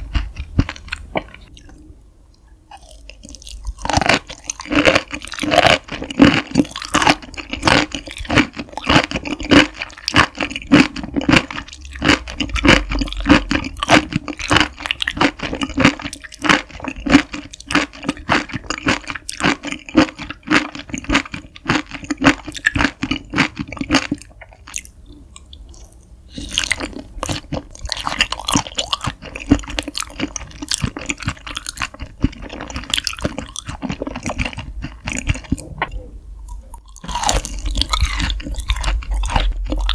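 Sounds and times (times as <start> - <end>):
wet chewing: 0.0 - 1.8, 2.7 - 39.9.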